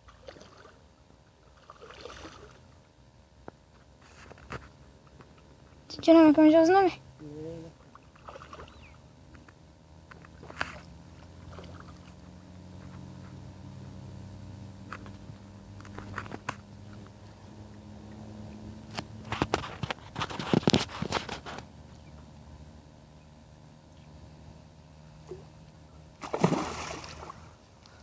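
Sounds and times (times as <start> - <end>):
low engine-like hum: 0.0 - 28.0.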